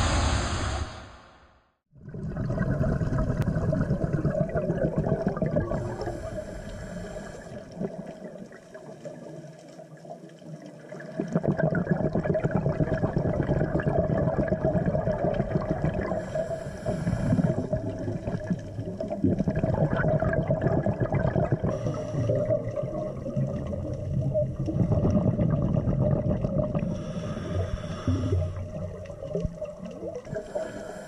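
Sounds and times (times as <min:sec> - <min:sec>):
underwater exhaled air bubbling: 0:01.9 - 0:31.0.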